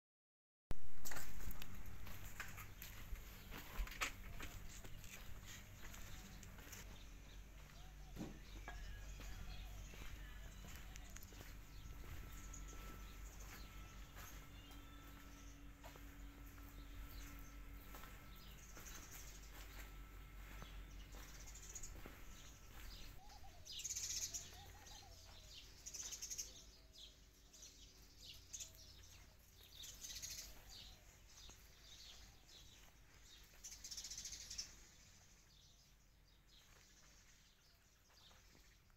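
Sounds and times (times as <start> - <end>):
low steady hum: 0.7 - 33.8
faint birds chirping: 1.2 - 38.9.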